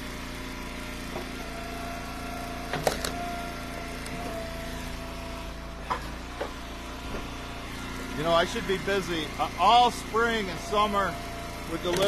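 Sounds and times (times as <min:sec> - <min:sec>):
wood splitter engine running: 0:00.0 - 0:12.0.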